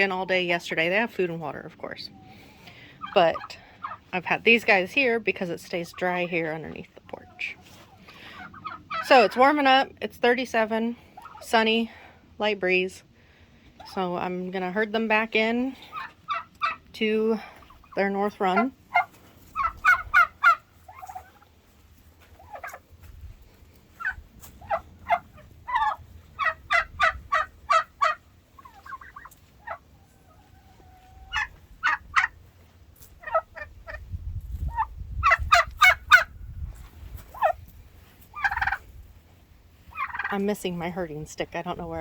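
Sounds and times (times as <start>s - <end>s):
turkeys calling: 0.0s - 36.4s, 37.1s - 42.0s.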